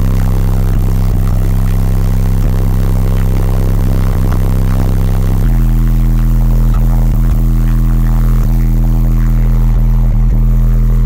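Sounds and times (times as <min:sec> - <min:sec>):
low bass tone from subwoofers: 0:00.0 - 0:11.0.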